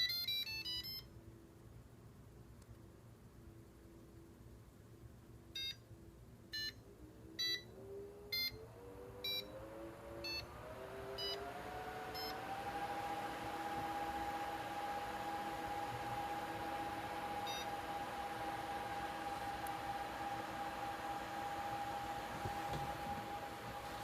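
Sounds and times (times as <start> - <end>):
fan motor whine: 3.5 - 24.0.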